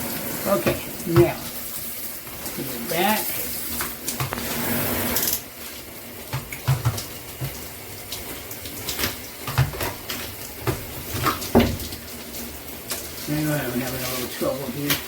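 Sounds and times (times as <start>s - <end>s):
shower water spraying: 0.0s - 15.0s.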